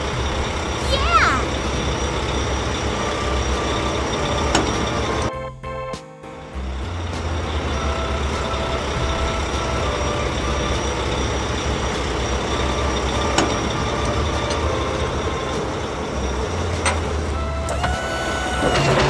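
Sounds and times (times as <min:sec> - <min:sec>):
truck engine running: 0:00.0 - 0:05.3, 0:06.3 - 0:19.0.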